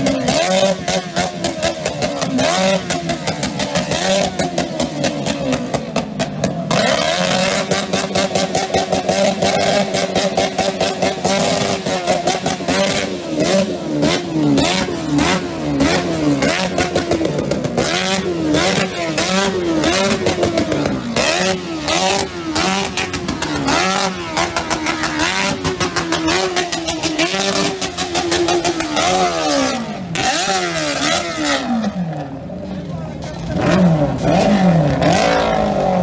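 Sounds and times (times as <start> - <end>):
exhaust crackles and pops: 0.0 - 13.0, 14.6 - 31.2
motorcycle engine revving: 0.0 - 36.0.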